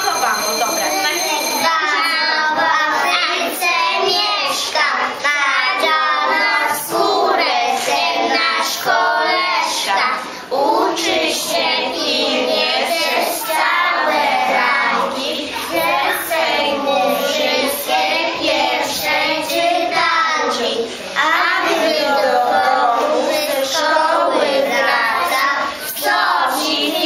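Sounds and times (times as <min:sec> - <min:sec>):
young children singing in unison: 0:01.6 - 0:27.0.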